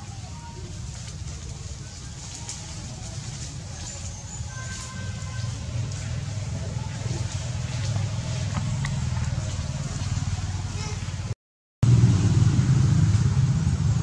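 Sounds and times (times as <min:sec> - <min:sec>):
motor engine rumbling: 0:00.0 - 0:14.0.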